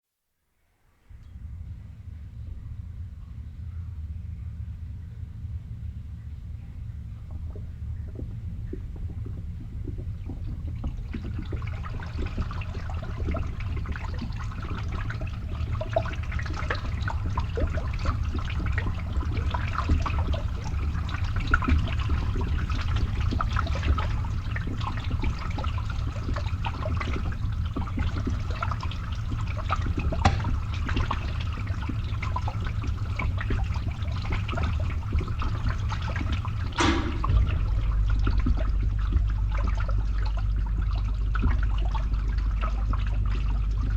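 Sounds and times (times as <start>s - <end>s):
pump humming: 1.1s - 43.9s
water gurgling through pipe: 4.5s - 43.9s.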